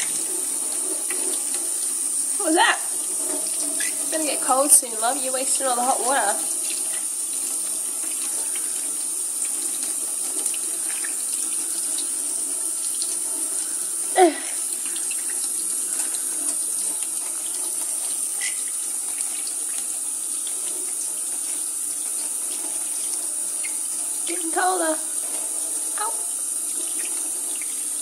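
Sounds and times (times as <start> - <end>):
tap water splashing in sink: 0.0 - 13.7, 14.5 - 28.0.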